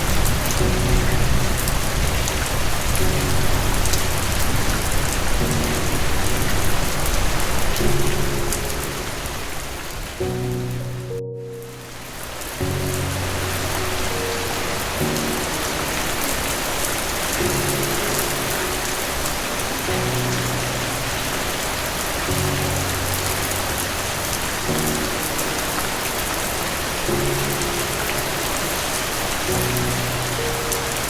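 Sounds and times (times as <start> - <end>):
soft instrumental chords: 0.0 - 31.0
steady rain hissing: 0.0 - 31.0.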